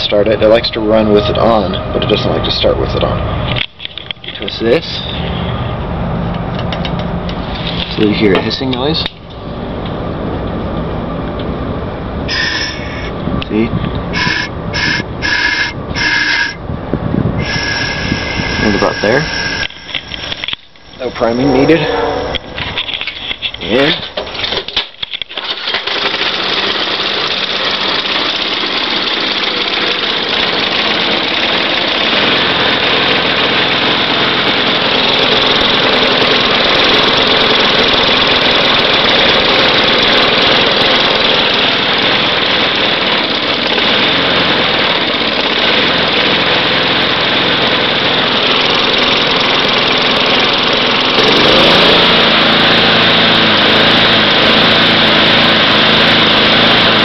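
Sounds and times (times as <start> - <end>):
lawn mower engine starting and running: 0.0 - 57.0.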